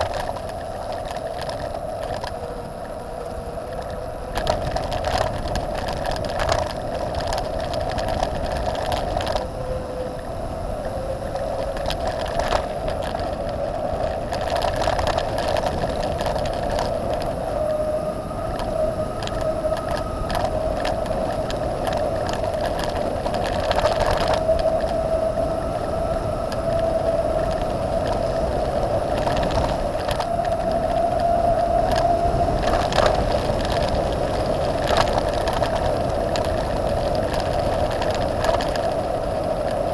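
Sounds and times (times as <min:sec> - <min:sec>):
bicycle tyres rolling: 0:00.0 - 0:39.9
wind noise: 0:00.0 - 0:39.9.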